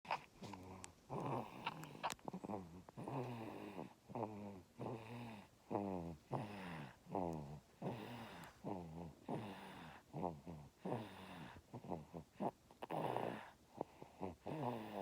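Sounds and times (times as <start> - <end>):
person snoring: 0.6 - 15.0.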